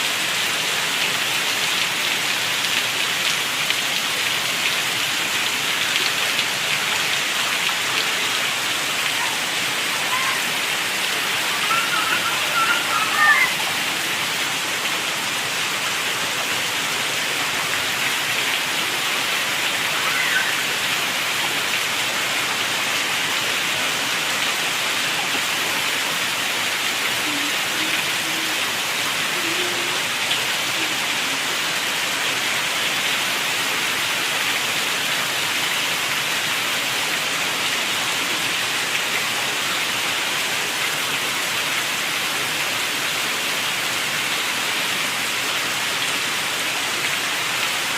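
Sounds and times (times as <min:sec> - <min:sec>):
heavy rain drumming: 0:00.0 - 0:47.9.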